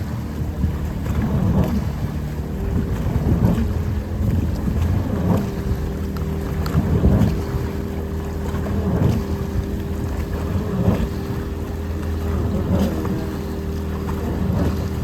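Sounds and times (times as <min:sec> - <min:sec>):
boat engine droning: 0:00.0 - 0:15.0
wind on microphone: 0:00.0 - 0:15.0.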